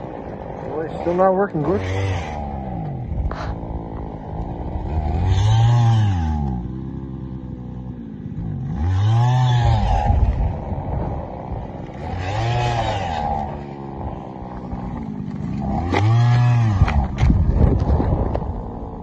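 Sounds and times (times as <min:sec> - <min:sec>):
ice auger motor revving: 0:00.6 - 0:06.8, 0:08.5 - 0:17.9.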